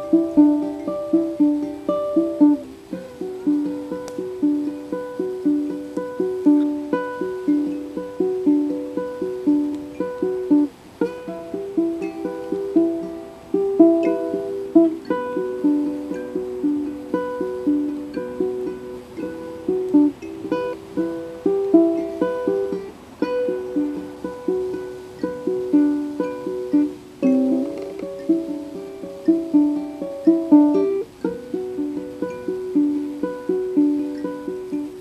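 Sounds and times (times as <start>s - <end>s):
ukulele fingerpicked melody: 0.0s - 35.0s.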